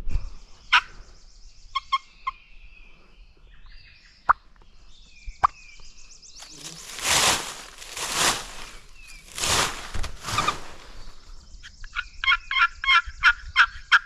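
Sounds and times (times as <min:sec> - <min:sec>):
songbirds trilling: 0:00.2 - 0:14.0.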